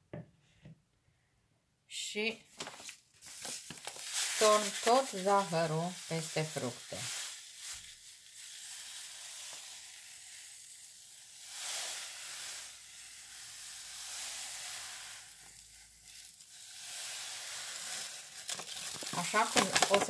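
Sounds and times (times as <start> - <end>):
sugar pouring grainy hiss: 3.2 - 20.0.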